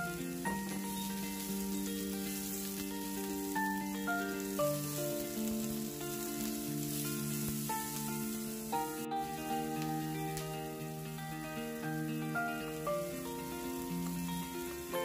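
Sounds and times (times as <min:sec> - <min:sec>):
background melody of held notes: 0:00.0 - 0:15.0
onion sizzling in hot oil: 0:00.0 - 0:15.0.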